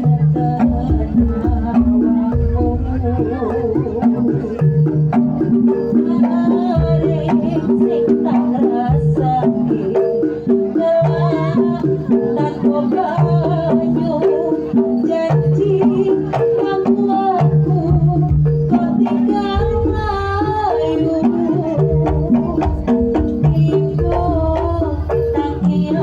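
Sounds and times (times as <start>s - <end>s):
hand drums: 0.0s - 26.0s
tuned metal percussion: 0.0s - 26.0s.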